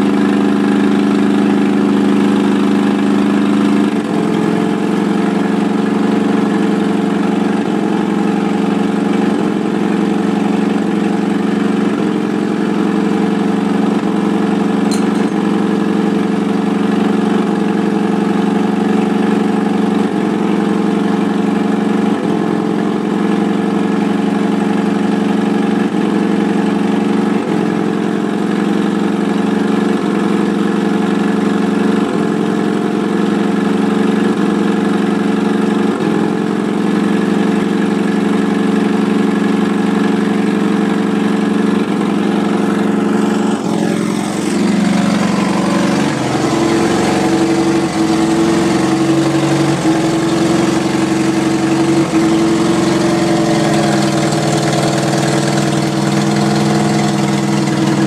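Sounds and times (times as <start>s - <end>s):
car engine idling: 0.0s - 31.4s, 32.1s - 58.0s.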